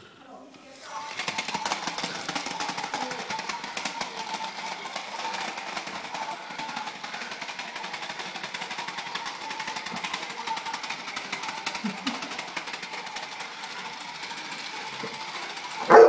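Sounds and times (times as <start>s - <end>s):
toy motor rattling: 0.0s - 16.0s.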